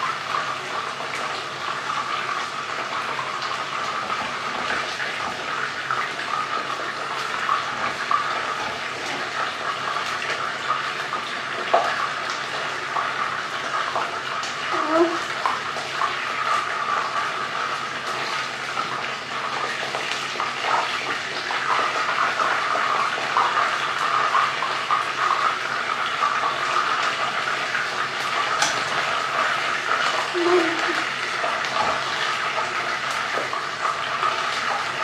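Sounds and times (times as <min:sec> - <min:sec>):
chicken deep-frying in oil: 0:00.0 - 0:35.0.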